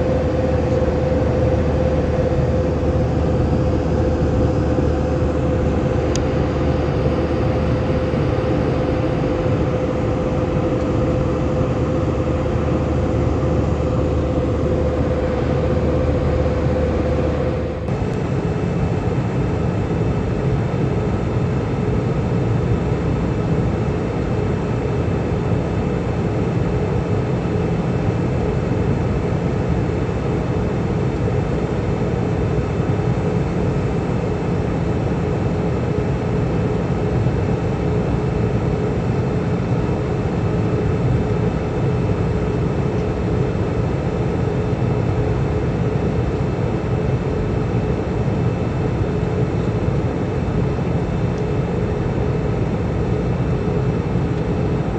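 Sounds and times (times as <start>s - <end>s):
airflow and engine drone: 0.0s - 54.9s
faint hum tones: 0.0s - 54.9s.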